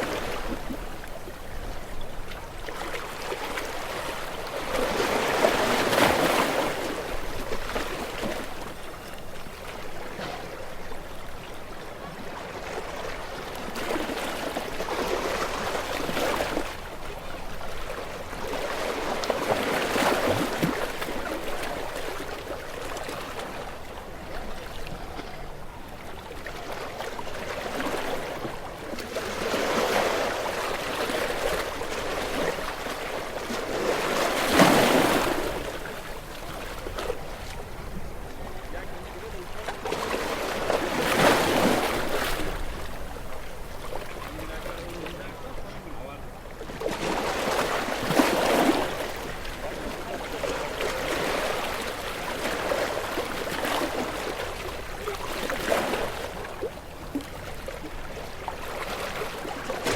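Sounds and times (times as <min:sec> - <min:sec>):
small waves washing onto shore: 0:00.0 - 0:59.9.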